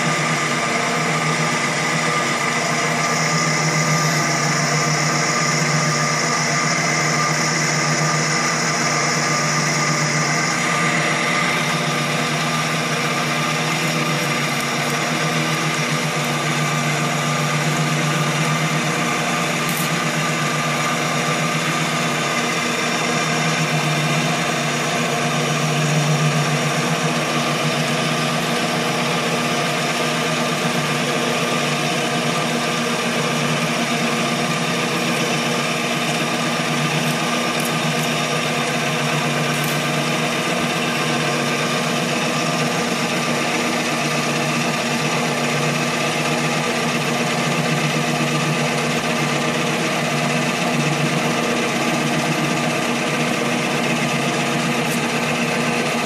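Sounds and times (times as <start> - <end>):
lathe motor whining: 0.0 - 56.0.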